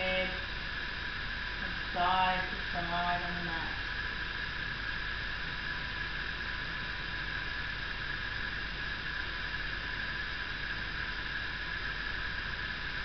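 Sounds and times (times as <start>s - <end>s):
steady hiss: 0.0s - 13.0s
thin high whine: 0.0s - 13.0s.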